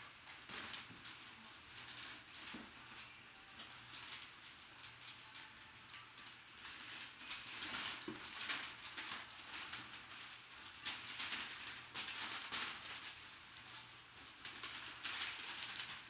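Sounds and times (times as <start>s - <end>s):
packaging rustling and crinkling: 0.2s - 16.0s.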